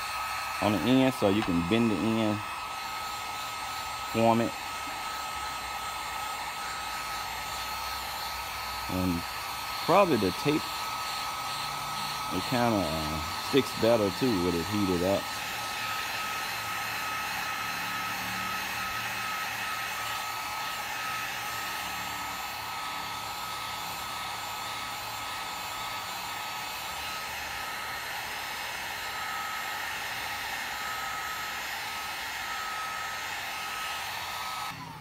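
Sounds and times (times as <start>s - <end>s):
heat gun blowing air: 0.0s - 35.0s.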